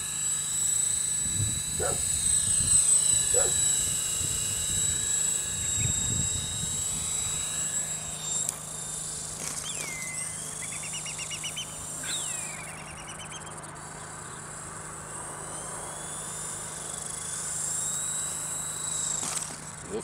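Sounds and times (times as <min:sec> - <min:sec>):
rc helicopter rotor whine: 0:00.0 - 0:20.0.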